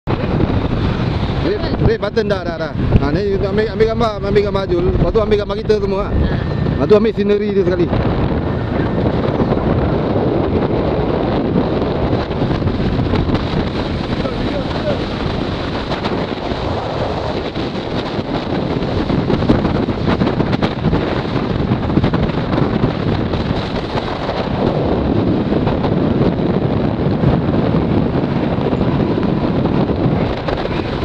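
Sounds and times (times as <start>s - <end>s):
wind buffeting microphone: 0.0s - 31.0s
motorbike engine and road noise: 0.1s - 31.0s.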